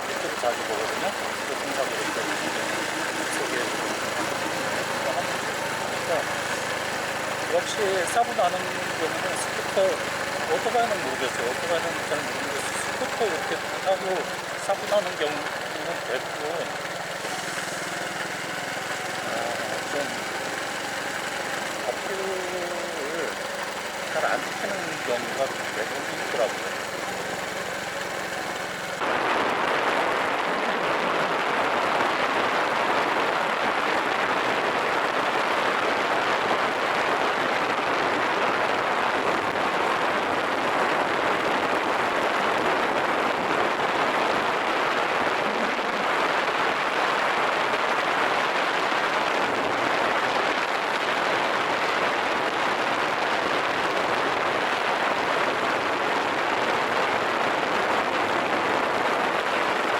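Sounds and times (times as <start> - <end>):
motorcycle road noise: 0.0 - 59.9
rushing wind: 0.0 - 59.9.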